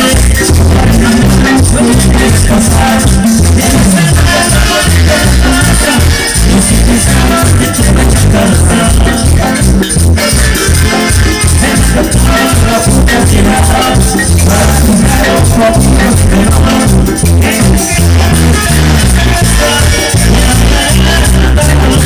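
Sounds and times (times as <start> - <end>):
marimba dance music over loudspeakers: 0.0 - 22.0.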